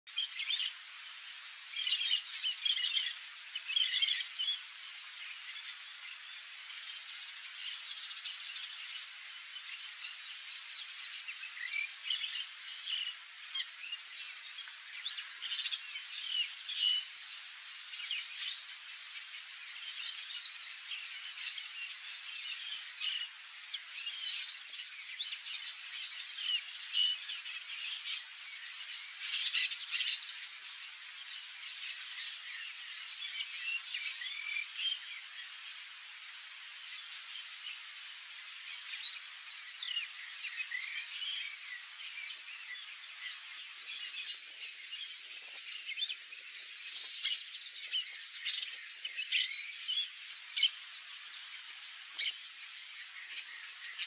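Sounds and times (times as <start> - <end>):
chorus of birds calling: 0.1 - 54.0.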